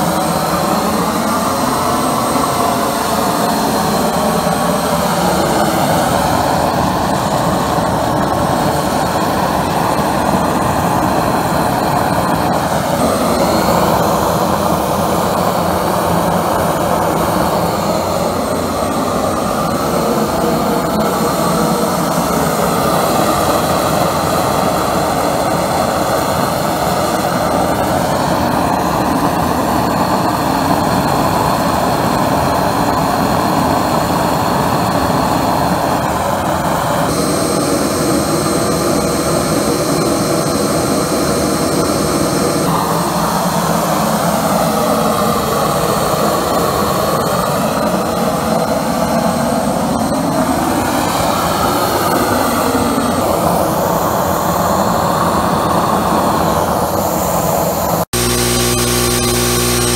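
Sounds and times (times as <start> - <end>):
burner firing with rushing noise: 0.0 - 59.9.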